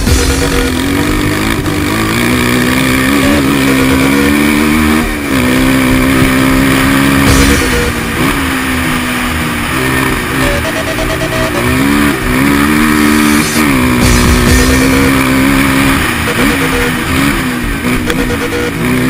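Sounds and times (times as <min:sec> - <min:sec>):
quad bike engine running hard: 0:00.0 - 0:19.0.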